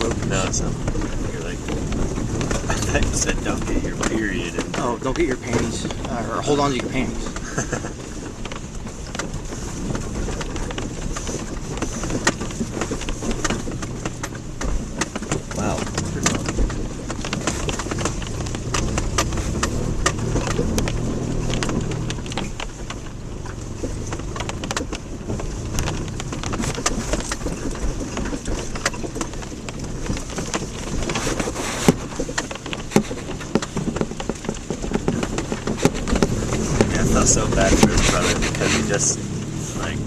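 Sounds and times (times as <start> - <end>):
clicks and knocks from bumps: 0.0 - 40.0
engine and tyres rumbling: 0.0 - 40.0.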